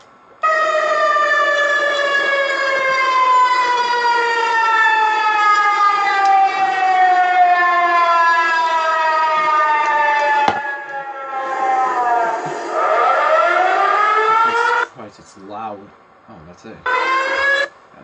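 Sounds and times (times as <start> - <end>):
warning siren falling tone: 0.4 - 14.9.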